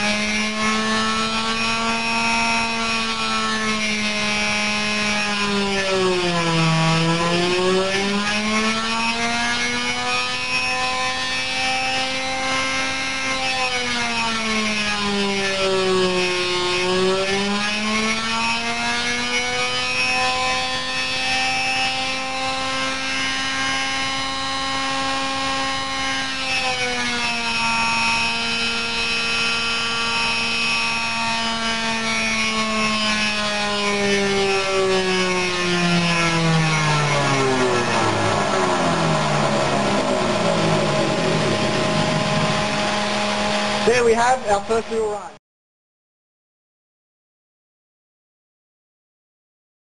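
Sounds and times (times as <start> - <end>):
model airplane engine whining: 0.0 - 45.2.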